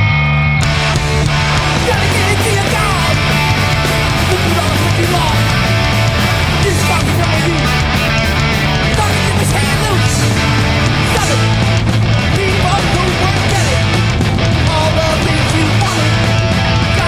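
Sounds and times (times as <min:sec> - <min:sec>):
punk band playing live: 0:00.6 - 0:17.0.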